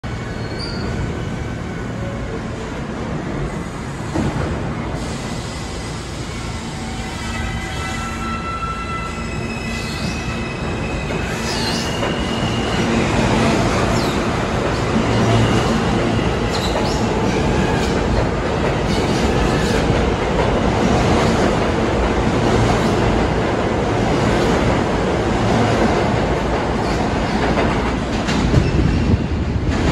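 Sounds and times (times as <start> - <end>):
subway train rumbling past: 0.0 - 29.9.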